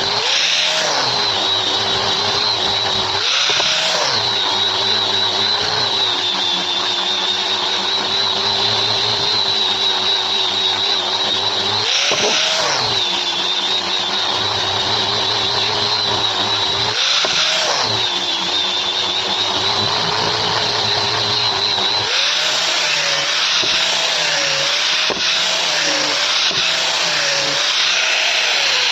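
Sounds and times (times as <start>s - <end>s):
power sander on wood: 0.0s - 28.9s.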